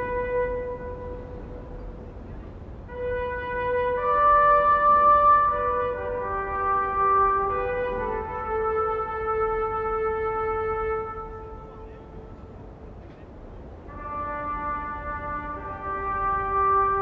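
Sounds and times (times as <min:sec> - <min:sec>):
slow sustained chords music: 0:00.0 - 0:17.0.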